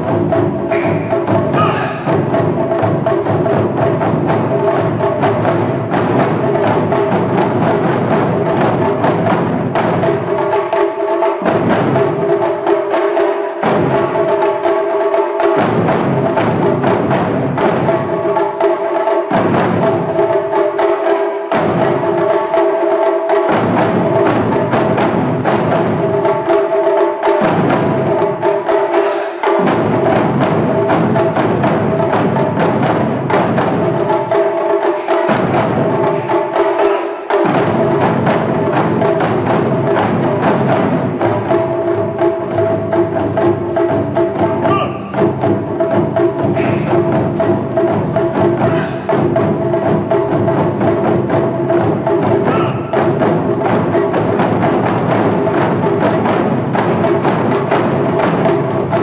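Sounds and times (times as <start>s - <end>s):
taiko drums: 0.0s - 59.0s.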